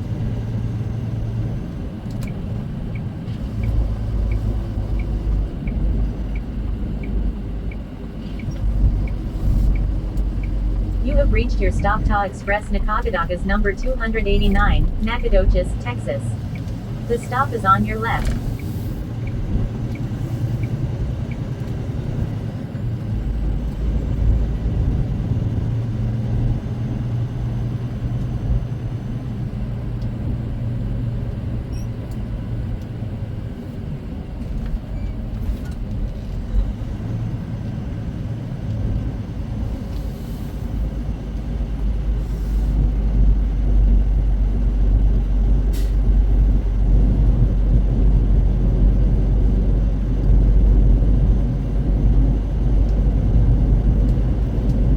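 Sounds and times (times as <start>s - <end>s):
diesel truck engine rumble: 0.0s - 54.9s.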